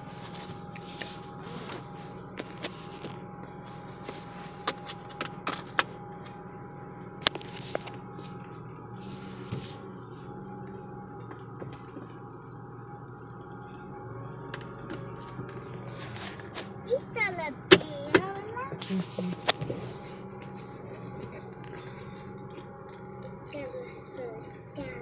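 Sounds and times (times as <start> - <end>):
car interior drive drone: 0.0 - 25.0.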